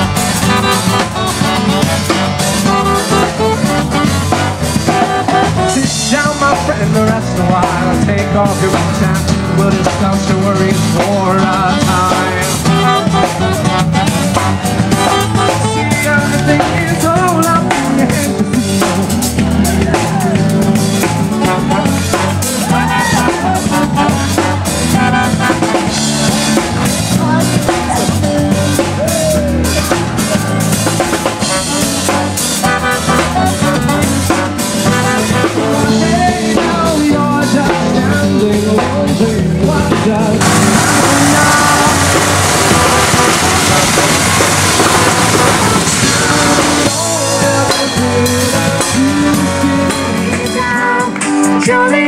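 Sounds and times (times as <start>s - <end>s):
drum kit beat: 0.0s - 52.0s
live band playing upbeat music: 0.0s - 52.0s.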